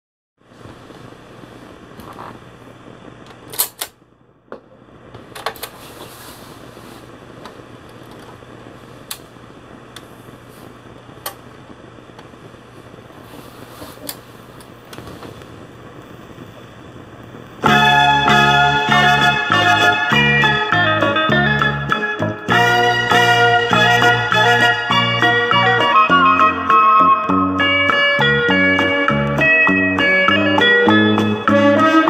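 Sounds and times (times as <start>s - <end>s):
turntable hum and hiss: 0.4s - 32.0s.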